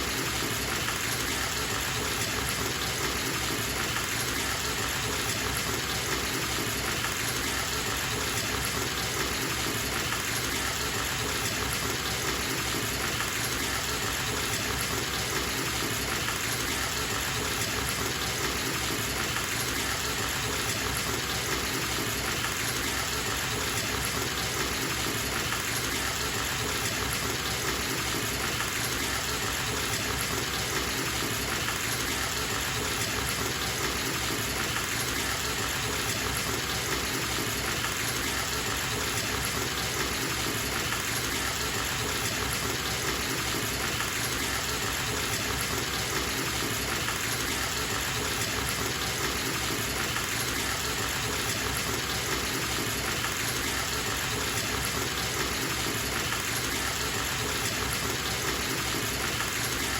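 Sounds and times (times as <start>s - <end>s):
tap water gushing into tub: 0.0s - 59.9s.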